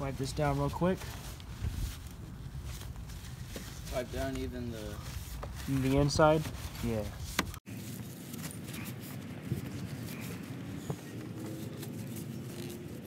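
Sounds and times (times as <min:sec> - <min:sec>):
paper towel rubbing on metal: 0:00.0 - 0:08.0, 0:08.7 - 0:13.0.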